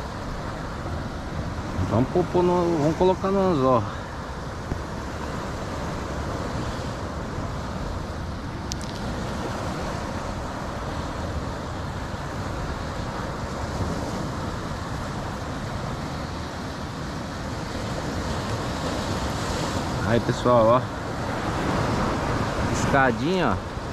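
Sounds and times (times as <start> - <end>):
surf breaking on rocky shore: 0.0 - 23.9
wind rumble on microphone: 0.0 - 23.9.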